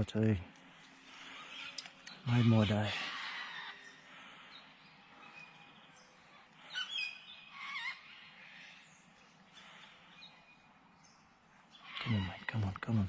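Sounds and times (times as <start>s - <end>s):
bird chirping: 0.0s - 13.0s
faint outdoor ambience: 0.0s - 13.0s.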